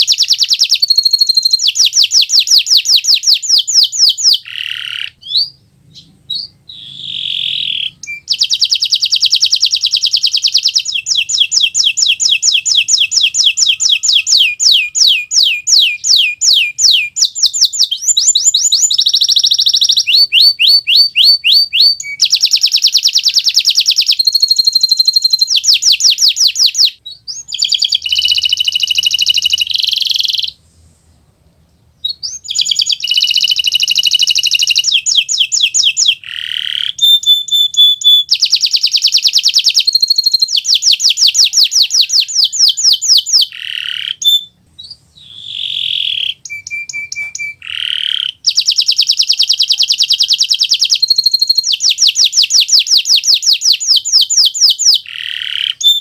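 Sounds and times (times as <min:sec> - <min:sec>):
canary singing rapid trills: 0:00.0 - 0:30.6, 0:32.0 - 0:56.0.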